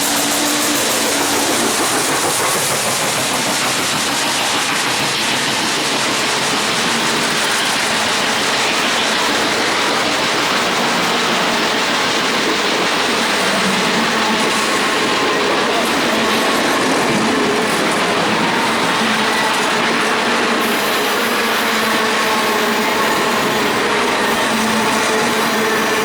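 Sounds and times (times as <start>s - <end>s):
train wheels rushing on track: 0.0s - 26.0s.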